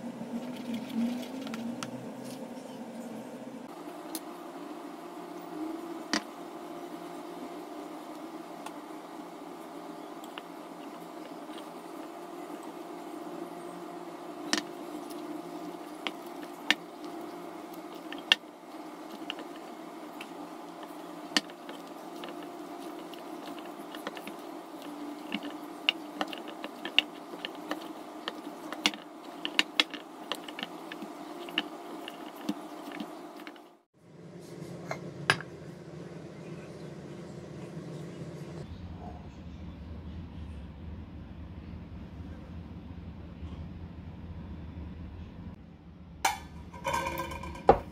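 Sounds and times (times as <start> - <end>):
background hum: 0.0 - 47.9.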